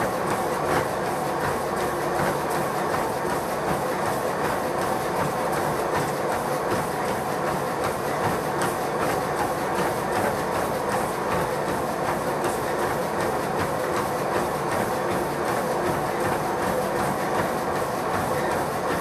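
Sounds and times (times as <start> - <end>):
footfalls on treadmill belt: 0.0 - 19.0
treadmill motor running: 0.0 - 19.0.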